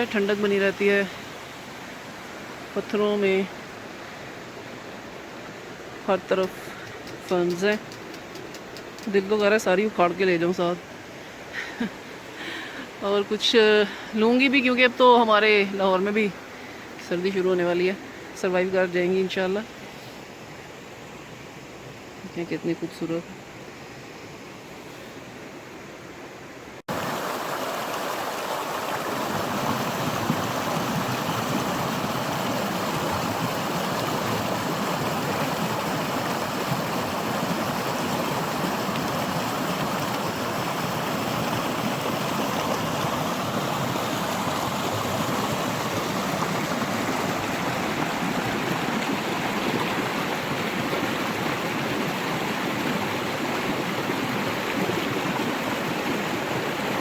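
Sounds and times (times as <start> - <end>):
stream rushing over rocks: 0.0 - 22.2, 26.6 - 57.0.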